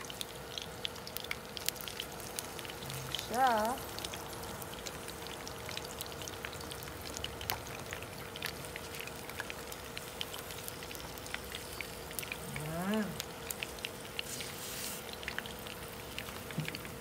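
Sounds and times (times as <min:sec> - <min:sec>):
fish frying in hot oil: 0:00.0 - 0:17.0
oil popping and spitting: 0:00.0 - 0:17.0.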